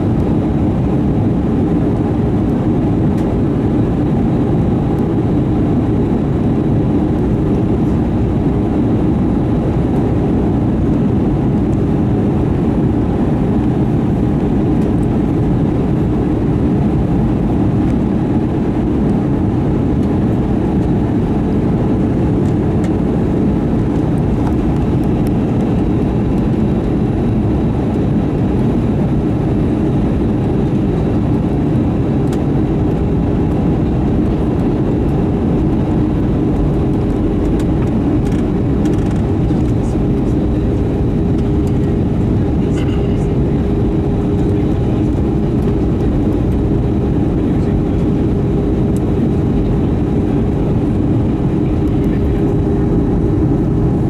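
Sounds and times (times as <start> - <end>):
jet engines in aircraft cabin: 0.0 - 54.0.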